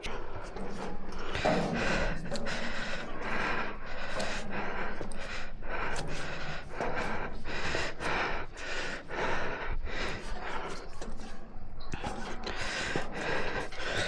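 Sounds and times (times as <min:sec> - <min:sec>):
person breathing hard and fast: 0:00.0 - 0:14.0.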